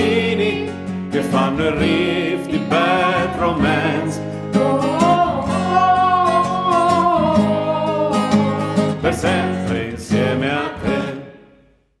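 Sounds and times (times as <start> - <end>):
voices singing held notes: 0.0 - 11.3
plucked guitar: 0.0 - 11.4.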